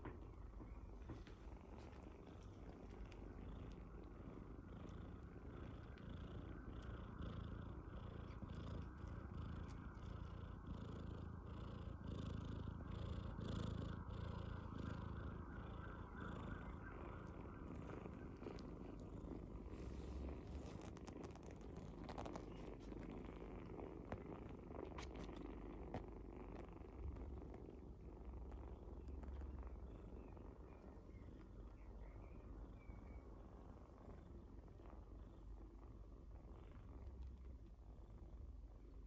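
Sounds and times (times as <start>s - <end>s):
cats purring: 0.0s - 39.0s.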